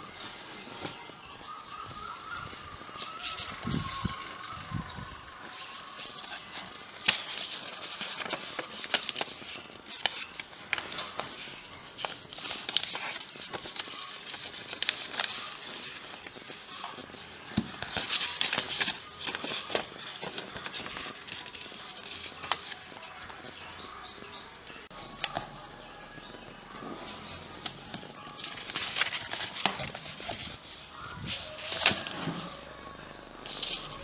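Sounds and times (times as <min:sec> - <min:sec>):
paper crackling and rustling: 0:00.0 - 0:23.9, 0:24.9 - 0:34.0.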